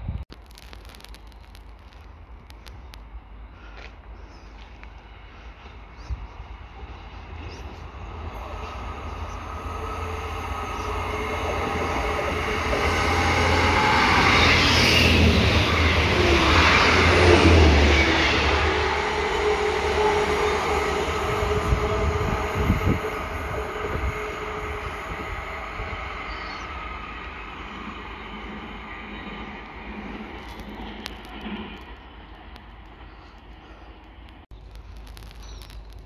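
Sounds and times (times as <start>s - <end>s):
train passing at speed: 3.0s - 34.5s.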